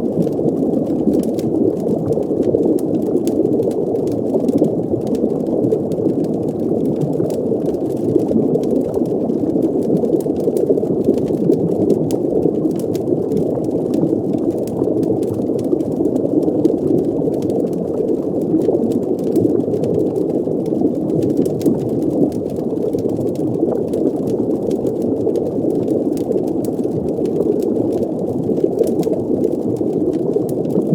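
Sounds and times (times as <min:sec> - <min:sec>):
underwater bubbling rumble: 0:00.0 - 0:30.9.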